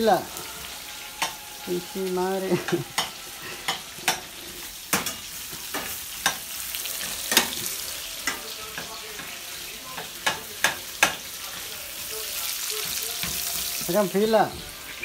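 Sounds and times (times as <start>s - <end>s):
sausages sizzling in a frying pan: 0.0s - 15.0s.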